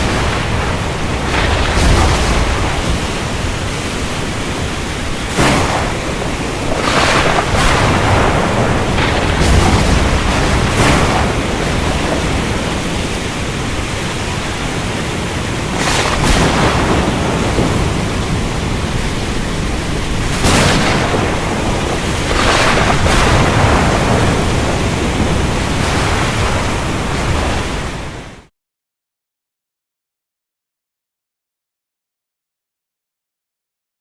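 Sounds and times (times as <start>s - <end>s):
heavy rain: 0.0s - 28.5s
thunder cracks: 0.0s - 28.5s.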